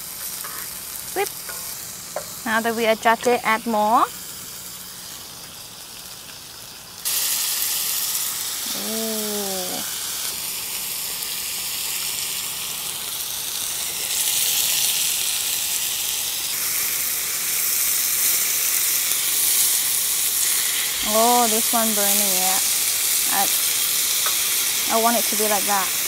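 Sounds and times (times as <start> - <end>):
patties sizzling in frying pan: 0.0 - 26.0.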